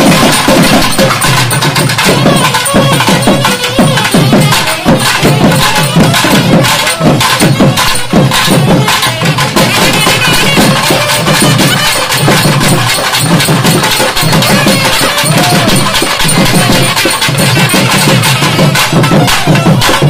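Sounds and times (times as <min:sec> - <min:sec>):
barrel drums beaten with sticks: 0:00.0 - 0:20.0.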